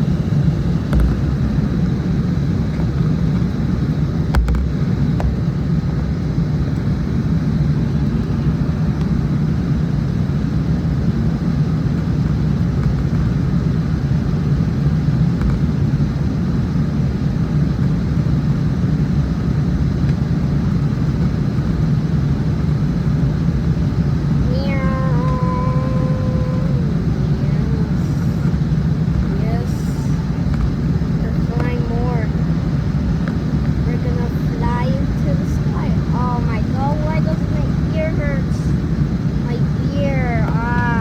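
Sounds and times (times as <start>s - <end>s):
airplane cabin drone: 0.0s - 41.0s.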